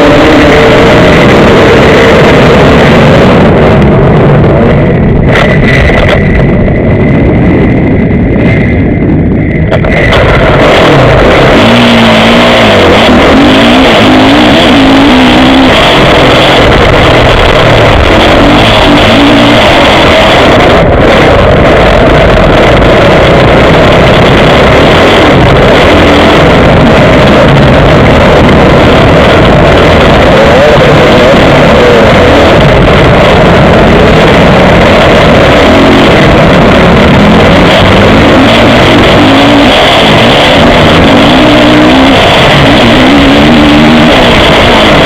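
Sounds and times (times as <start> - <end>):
motocross bike engine revving: 0.0 - 7.8, 8.4 - 45.0
rushing wind noise: 0.0 - 45.0.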